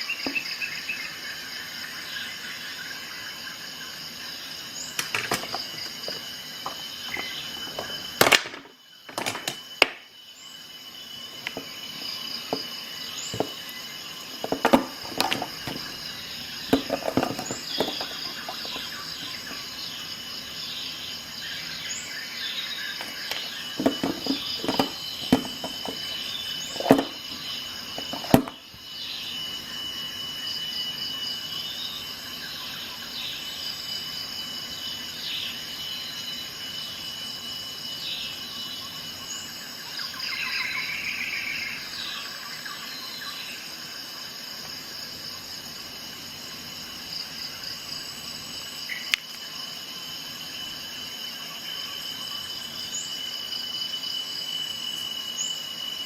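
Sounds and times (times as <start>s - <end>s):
insect chirps: 0.0s - 56.0s
insect chorus trilling: 0.0s - 56.0s.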